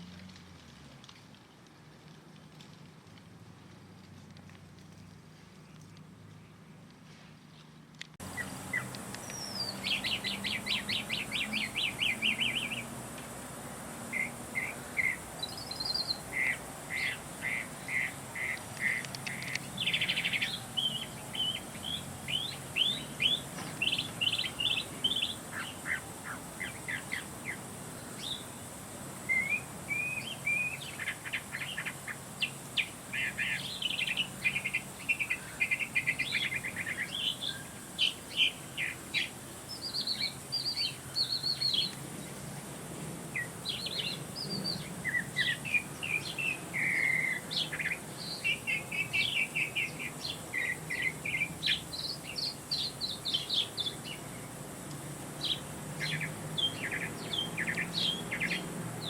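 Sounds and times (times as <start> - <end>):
songbird singing: 4.3 - 59.0.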